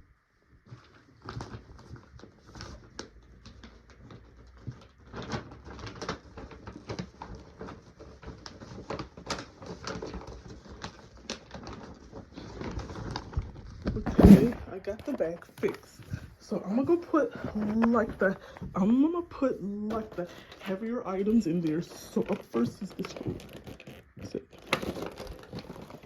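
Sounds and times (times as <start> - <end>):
paper bag rustling: 0.6 - 26.0.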